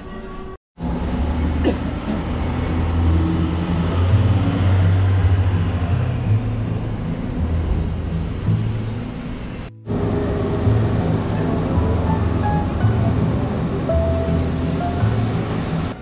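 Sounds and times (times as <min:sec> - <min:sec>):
street traffic noise: 0:00.0 - 0:16.0
vehicle engine humming: 0:00.8 - 0:16.0.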